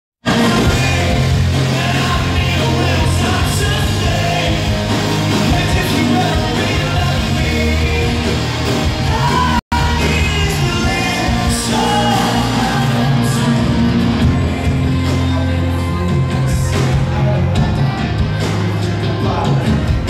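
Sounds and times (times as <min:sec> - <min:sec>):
electric guitars: 0:00.2 - 0:20.0
live rock band: 0:00.2 - 0:20.0
person singing: 0:00.2 - 0:20.0.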